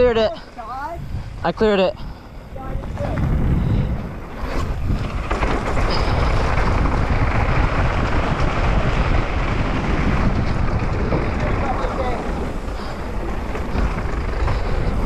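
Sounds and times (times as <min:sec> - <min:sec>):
bike tyres rolling over dirt: 0:00.0 - 0:15.0
wind on microphone: 0:00.0 - 0:15.0
tyres on wooden planks: 0:02.0 - 0:15.0.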